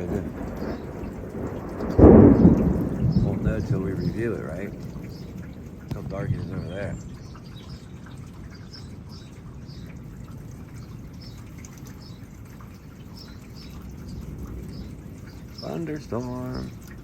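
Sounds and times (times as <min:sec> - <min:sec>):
rain and wind: 0:00.0 - 0:17.0.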